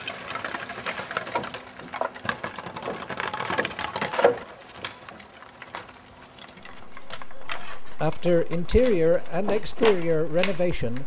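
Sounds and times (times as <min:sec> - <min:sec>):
fire crackling and popping: 0:00.0 - 0:10.6.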